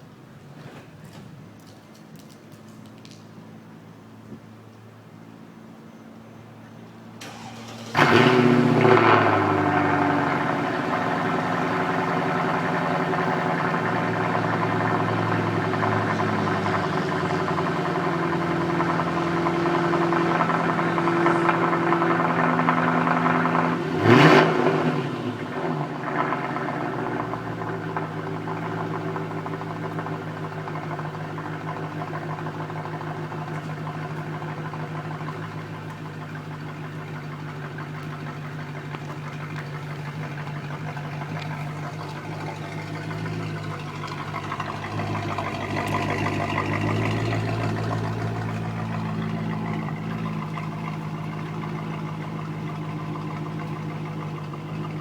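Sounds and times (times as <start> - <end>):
car engine idling: 1.3 - 55.0.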